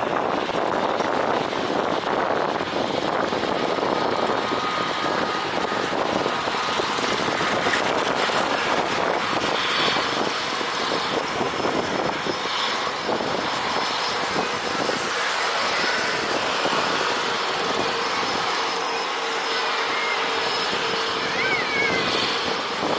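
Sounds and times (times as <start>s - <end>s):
jet engine roar: 0.0s - 22.9s.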